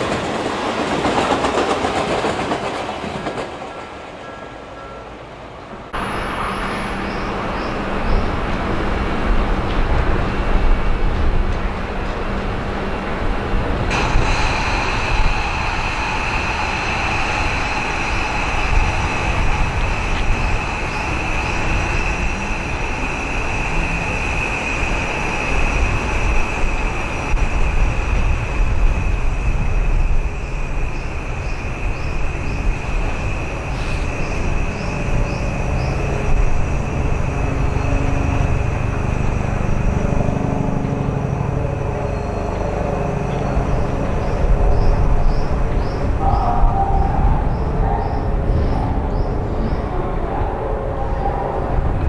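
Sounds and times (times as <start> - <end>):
electric train humming: 0.0 - 52.0.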